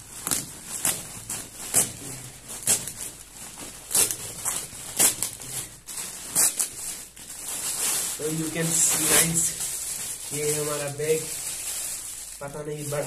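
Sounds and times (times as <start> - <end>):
plastic mailer tearing and crinkling: 0.0 - 13.0.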